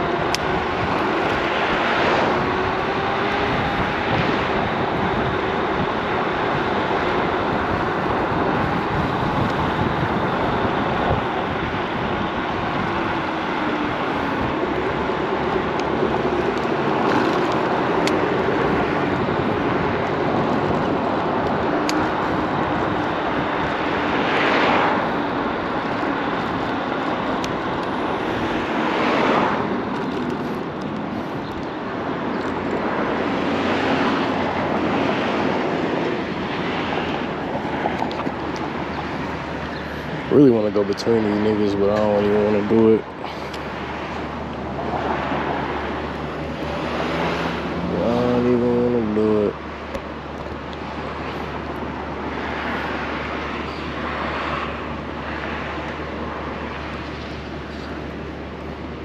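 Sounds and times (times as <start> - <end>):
vehicles passing: 0.0 - 59.0
wind rush: 0.0 - 59.0.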